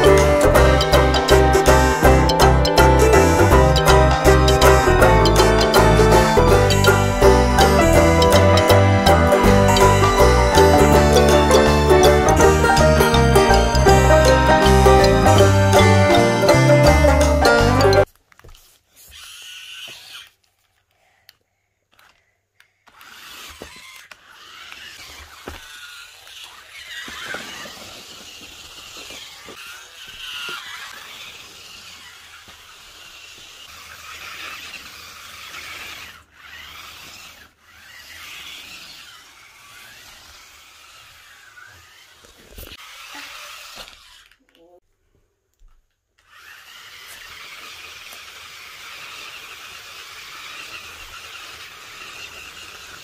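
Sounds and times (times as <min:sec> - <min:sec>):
rc car motors whining: 0:00.0 - 0:44.7, 0:46.2 - 0:53.0.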